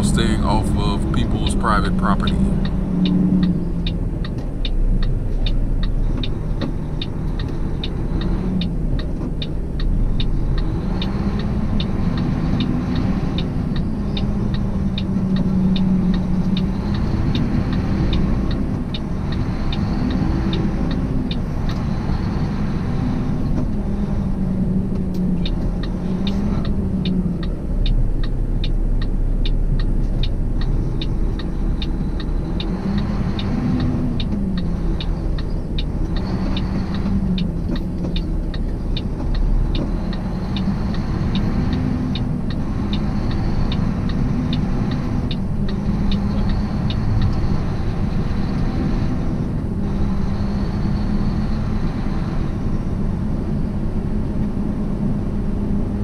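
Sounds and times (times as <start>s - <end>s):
truck diesel engine: 0.0s - 56.0s
turn signal ticking: 0.0s - 56.0s.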